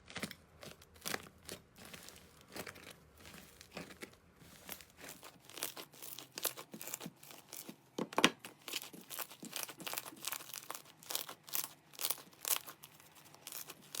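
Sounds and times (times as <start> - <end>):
slime crackling and popping: 0.0 - 2.9, 4.7 - 14.0.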